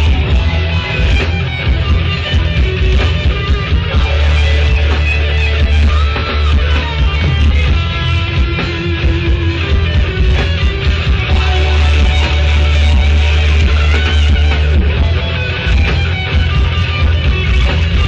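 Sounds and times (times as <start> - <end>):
booming bass and drums: 0.0 - 18.0
electric guitar: 0.0 - 18.0
live heavy rock band: 0.0 - 18.0.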